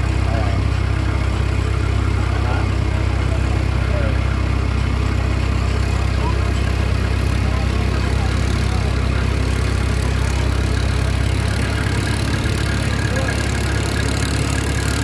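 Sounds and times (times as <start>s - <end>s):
boat engine drone: 0.0s - 15.0s
wind: 0.0s - 15.0s.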